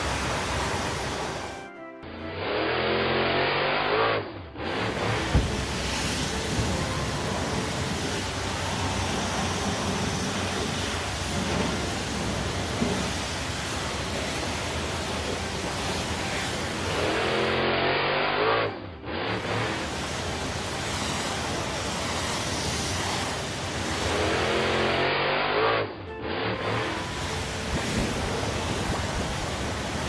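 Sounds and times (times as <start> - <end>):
engine revving: 0.0 - 1.6, 2.2 - 30.0
foam sprayer hissing: 0.0 - 1.6, 4.6 - 30.0.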